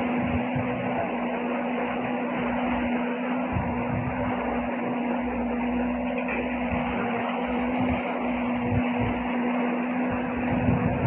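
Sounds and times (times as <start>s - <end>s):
speedboat engine droning: 0.0s - 11.0s.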